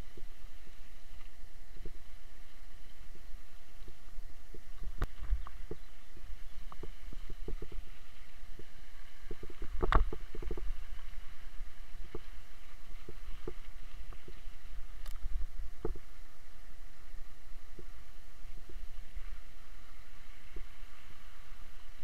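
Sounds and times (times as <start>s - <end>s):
wind and vibration rumble: 0.0s - 22.0s.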